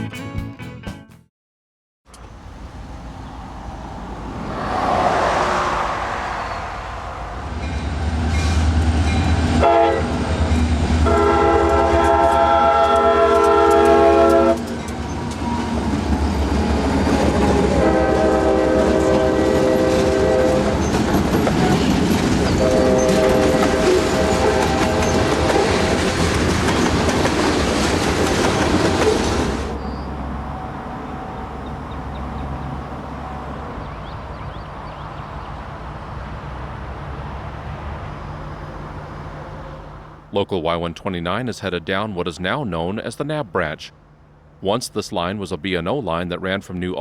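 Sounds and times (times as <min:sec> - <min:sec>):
diesel locomotive engine rumbling: 0:02.1 - 0:46.5.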